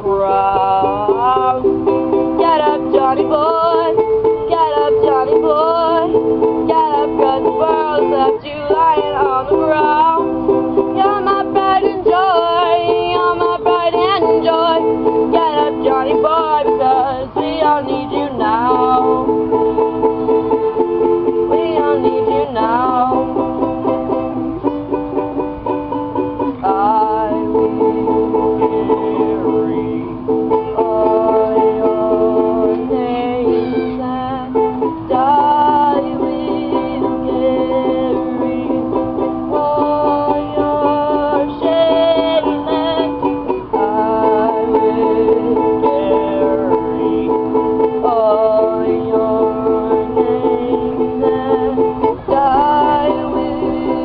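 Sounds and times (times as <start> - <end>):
ukulele strumming: 0.0 - 54.0.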